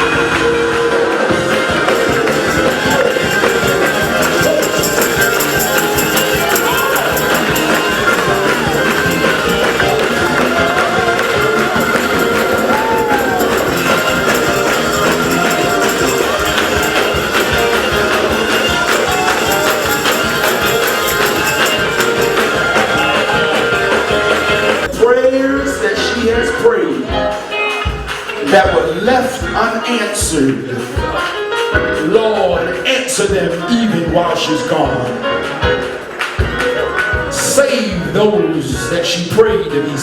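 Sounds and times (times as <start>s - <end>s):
lively music with steady beat: 0.0s - 40.0s.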